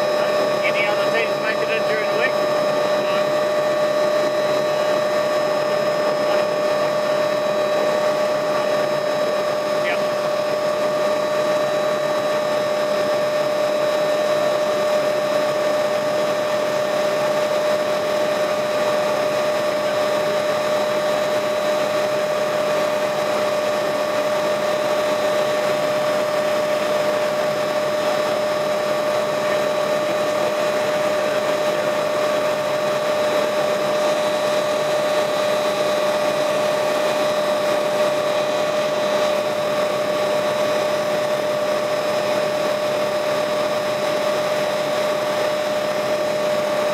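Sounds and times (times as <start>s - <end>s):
helicopter engine and rotor drone: 0.0s - 46.9s.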